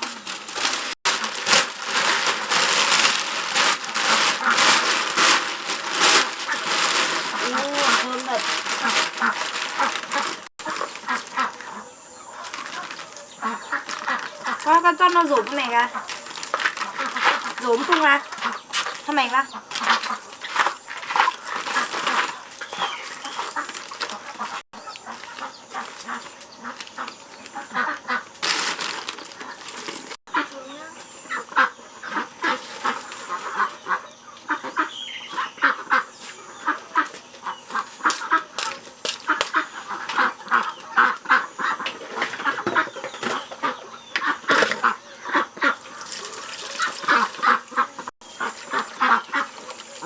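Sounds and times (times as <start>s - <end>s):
dry plant material rustling: 0.0s - 31.3s, 32.0s - 34.1s, 34.9s - 41.4s, 44.3s - 50.0s
animals calling: 0.0s - 50.0s.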